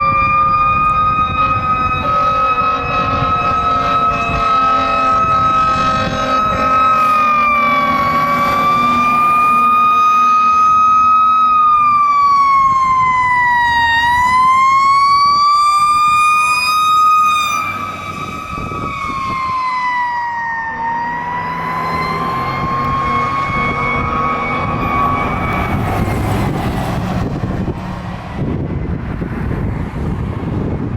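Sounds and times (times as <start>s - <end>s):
mechanical siren wailing: 0.0s - 27.8s
lower siren tone: 0.0s - 29.6s.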